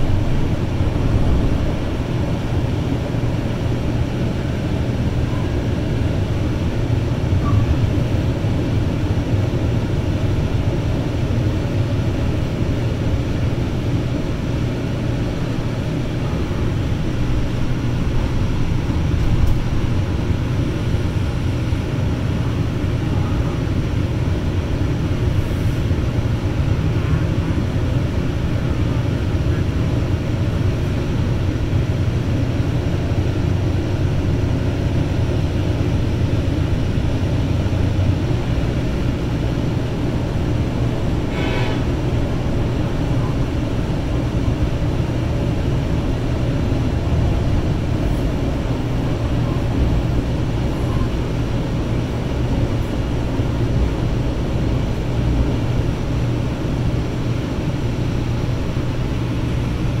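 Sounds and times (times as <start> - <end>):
diesel locomotives rumbling: 0.0 - 60.0.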